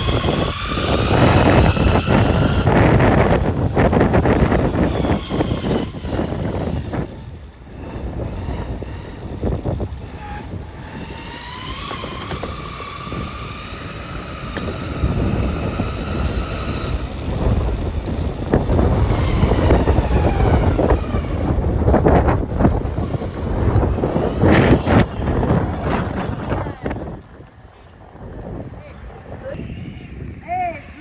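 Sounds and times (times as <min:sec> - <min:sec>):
electric motor whine: 0:00.0 - 0:27.3
skateboard wheel rumble: 0:00.0 - 0:31.0
wind on microphone: 0:00.0 - 0:31.0.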